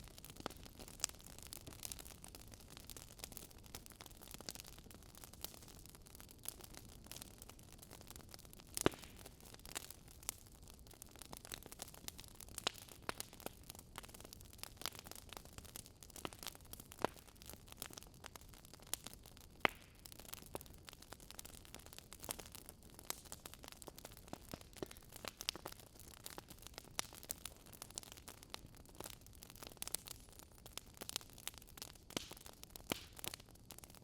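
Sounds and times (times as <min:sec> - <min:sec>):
burning logs popping: 0:00.0 - 0:34.0
wood fire crackling: 0:00.0 - 0:34.0.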